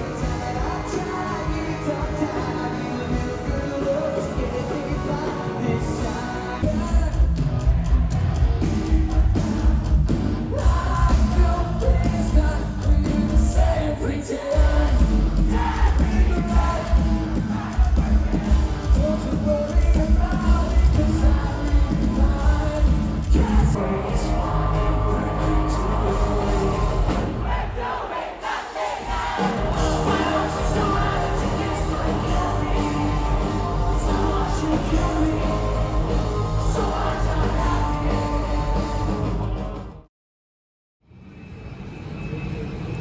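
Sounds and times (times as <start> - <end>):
live rock band with singer: 0.0 - 27.5, 29.0 - 40.0.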